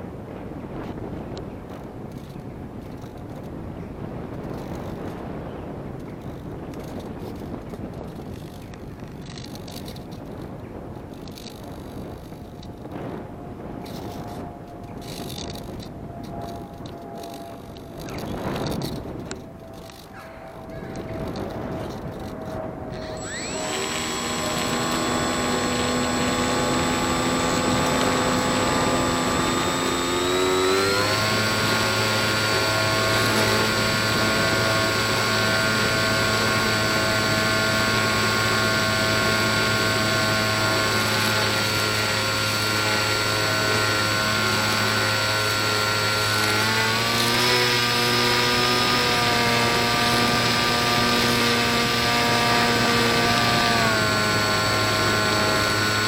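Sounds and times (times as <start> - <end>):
model plane motor whining: 0.8 - 56.0.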